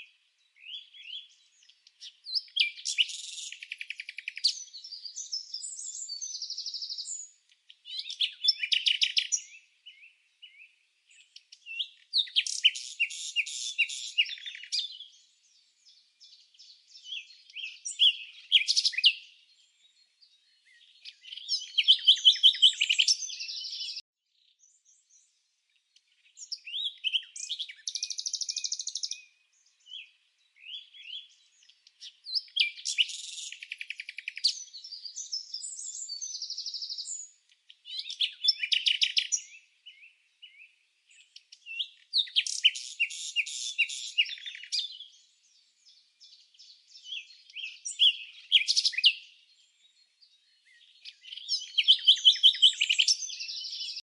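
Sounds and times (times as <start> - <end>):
songbird singing trills: 0.0 - 54.0.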